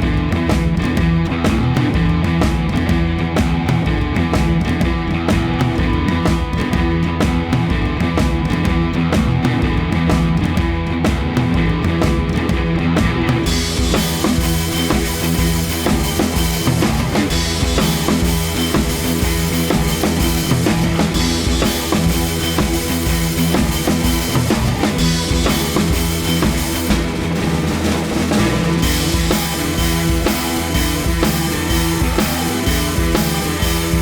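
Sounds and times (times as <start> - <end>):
rock music: 0.0 - 34.0.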